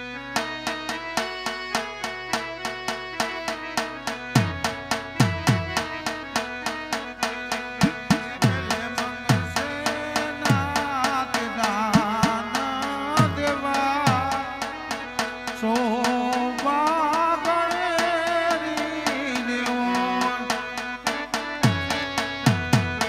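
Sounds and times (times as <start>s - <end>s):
tabla bass strokes: 0.4s - 16.7s, 19.9s - 23.0s.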